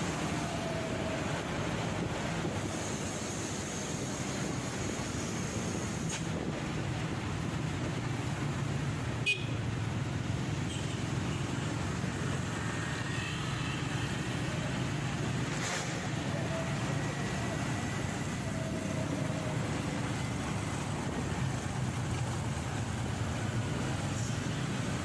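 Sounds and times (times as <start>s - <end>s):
motorcycle engine and road rumble: 0.0s - 25.0s
other vehicles in traffic: 0.0s - 25.0s.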